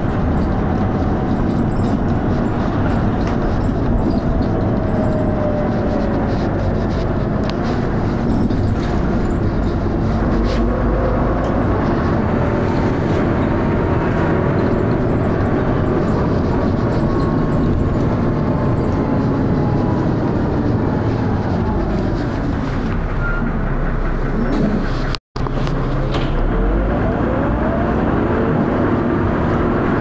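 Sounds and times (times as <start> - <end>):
bus diesel engine thrashing: 0.0 - 27.5.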